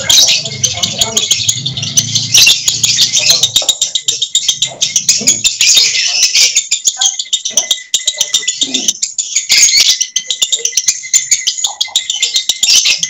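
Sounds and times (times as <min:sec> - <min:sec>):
lovebirds chattering trill: 0:00.0 - 0:13.0.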